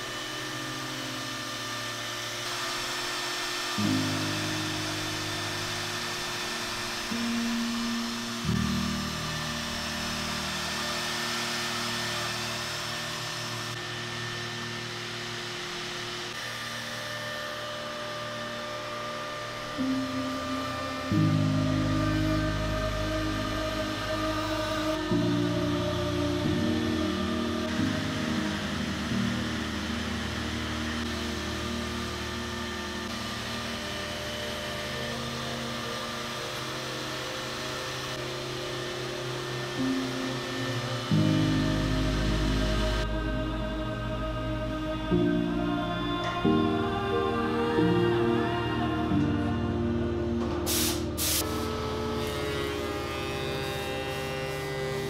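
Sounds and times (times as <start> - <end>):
cnc router running: 0.0 - 55.0
dust extraction hum: 0.0 - 55.0
woodworking machine whirring: 0.0 - 55.0.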